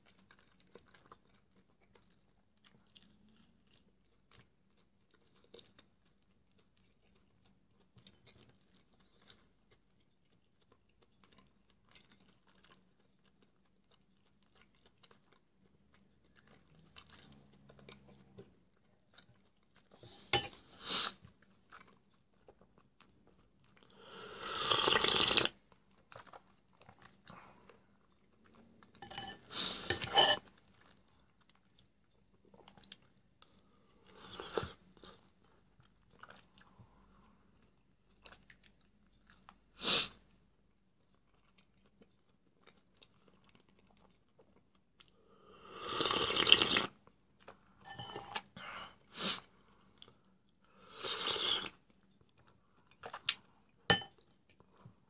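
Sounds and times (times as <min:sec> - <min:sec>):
man chewing and eating: 0:00.0 - 0:55.0.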